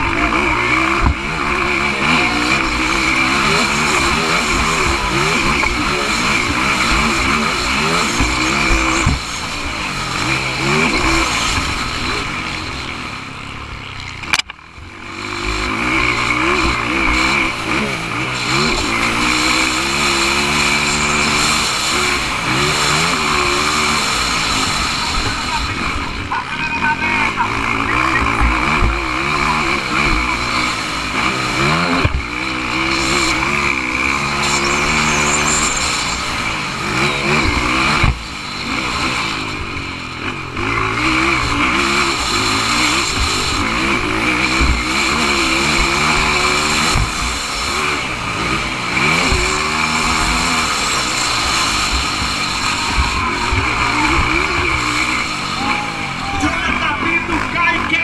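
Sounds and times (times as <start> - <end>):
motocross motorcycles revving: 0.0 - 58.0.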